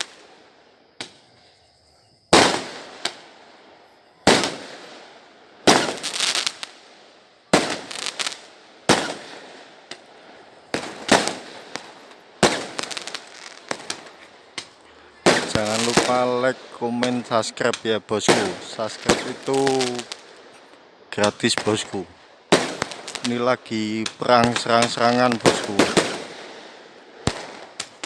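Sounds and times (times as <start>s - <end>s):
fireworks bangs echoing: 0.0s - 28.0s
fireworks crackling: 0.0s - 28.0s.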